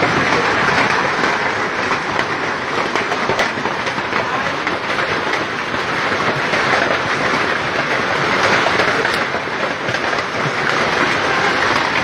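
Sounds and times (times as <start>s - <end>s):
hail and rain clattering: 0.0s - 12.0s.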